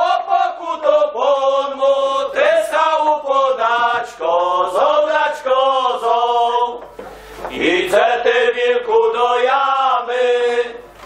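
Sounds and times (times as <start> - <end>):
men singing unaccompanied: 0.0 - 11.0.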